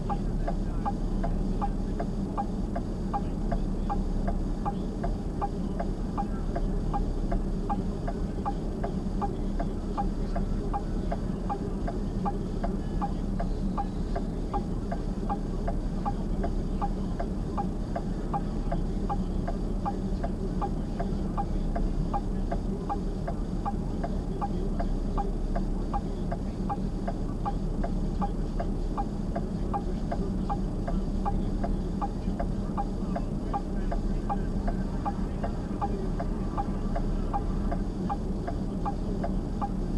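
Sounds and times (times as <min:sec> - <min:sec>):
car turn signal ticking: 0:00.0 - 0:39.9
vehicle idling hum: 0:00.0 - 0:39.9.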